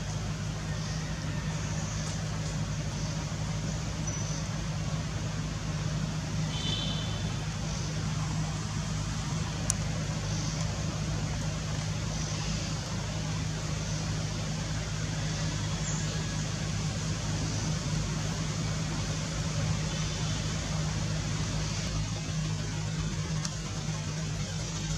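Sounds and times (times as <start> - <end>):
constant hiss: 0.0 - 24.9
low motor hum: 0.0 - 24.9.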